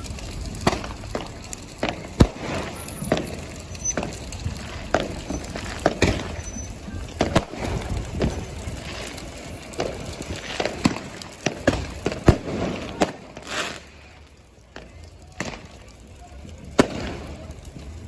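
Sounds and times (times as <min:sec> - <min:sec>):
fireworks bangs and cracks: 0:00.0 - 0:18.0
general rumble: 0:00.0 - 0:18.0.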